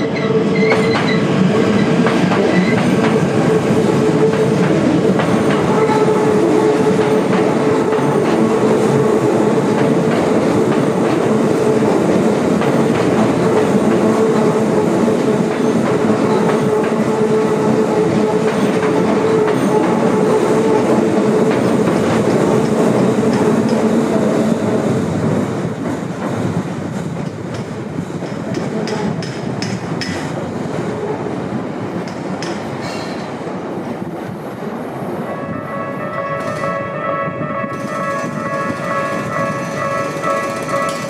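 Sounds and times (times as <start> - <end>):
electric train running past: 0.0 - 41.0.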